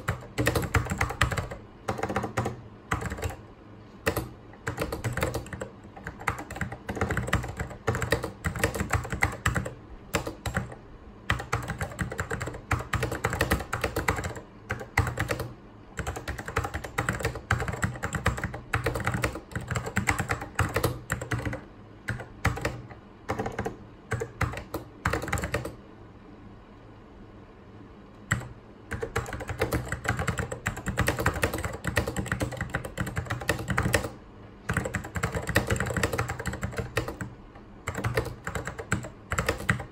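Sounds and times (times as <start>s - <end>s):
fast typing on mechanical keyboard: 0.0s - 3.4s, 4.0s - 25.8s, 28.3s - 39.9s.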